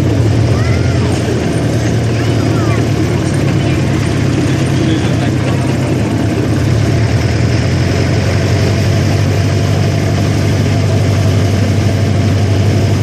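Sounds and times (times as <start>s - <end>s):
train engine humming: 0.0s - 13.0s.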